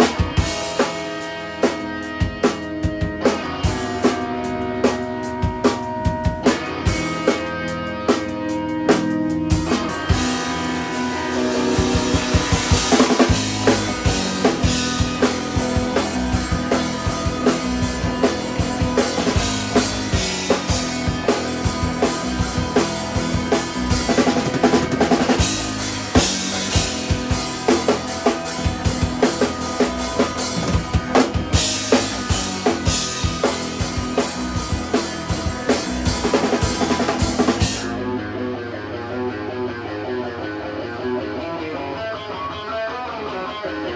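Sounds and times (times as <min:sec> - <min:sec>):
drum kit beat: 0:00.0 - 0:38.3
guitar and bass playing: 0:00.0 - 0:43.9.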